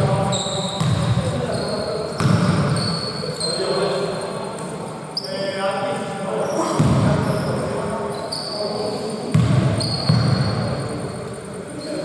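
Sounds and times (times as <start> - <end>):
sneakers squeaking on floor: 0.0 - 5.6, 6.4 - 12.0.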